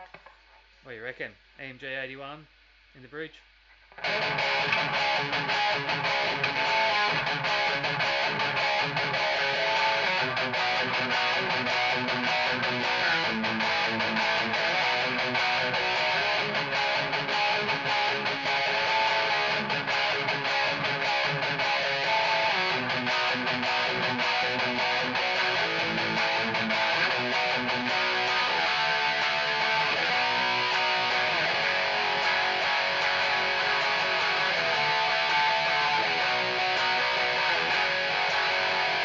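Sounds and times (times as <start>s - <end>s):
high-gain electric guitar riffing: 3.9s - 39.0s.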